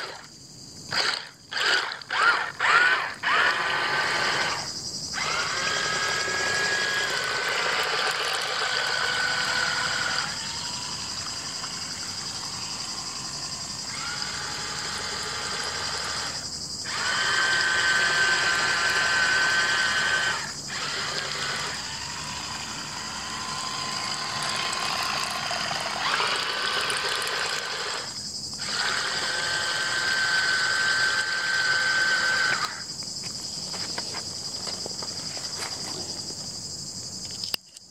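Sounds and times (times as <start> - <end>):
toy boat electric motor whining: 0.0 - 0.3, 0.9 - 32.9.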